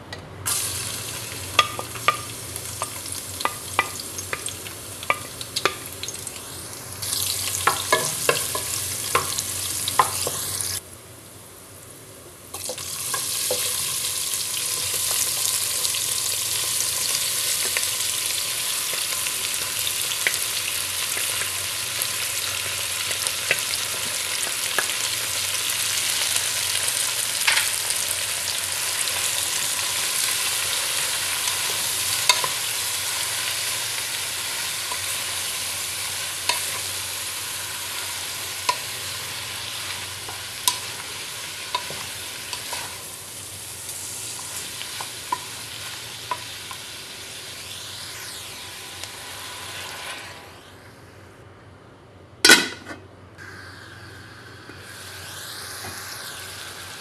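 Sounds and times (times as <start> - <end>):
meat frying with loud sizzle: 0.5 - 10.8, 12.5 - 50.8, 53.4 - 57.0
garlic sizzling in oil: 0.5 - 50.9, 53.4 - 57.0.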